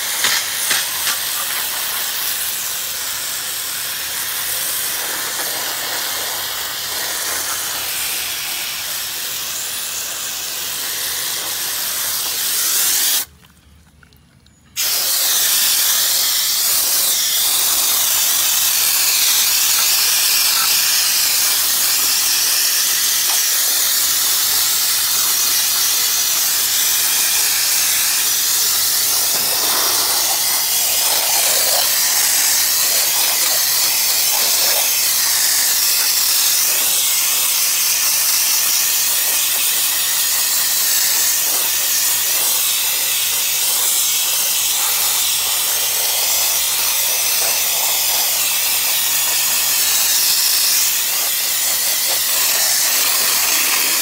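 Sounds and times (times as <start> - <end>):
spray gun hissing: 0.0 - 13.3, 14.8 - 54.0.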